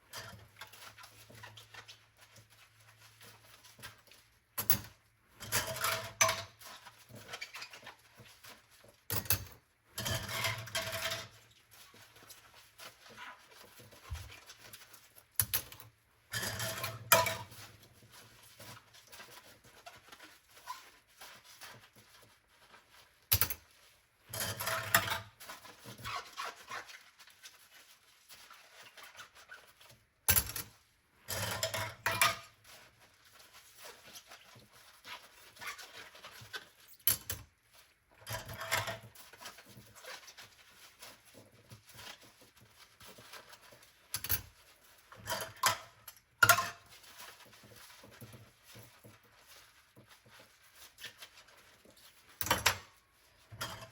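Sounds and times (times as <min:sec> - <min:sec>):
water and scrubbing: 0:00.0 - 0:09.1, 0:09.7 - 0:53.9.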